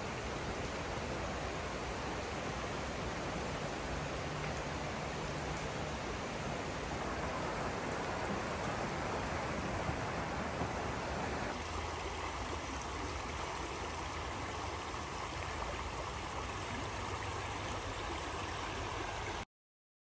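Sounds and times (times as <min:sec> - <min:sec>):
stream water rushing over rocks: 0:00.0 - 0:19.4.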